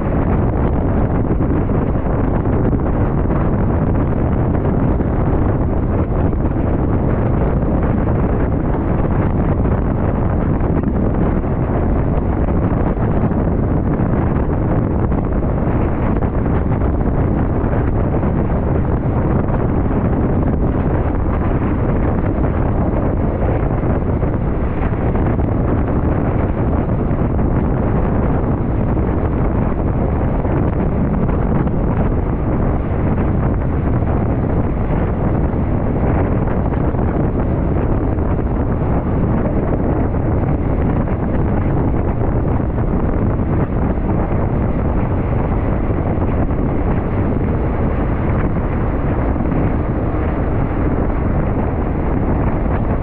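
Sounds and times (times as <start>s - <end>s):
loud rushing noise with rumble: 0.0s - 53.0s.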